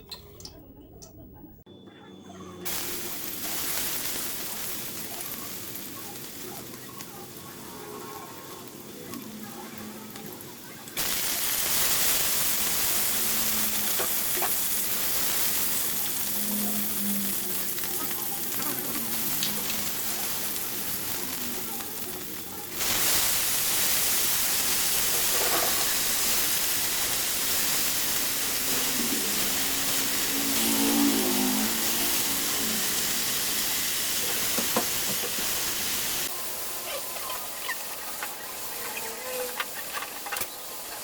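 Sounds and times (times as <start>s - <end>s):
food sizzling in hot oil: 2.7s - 41.0s.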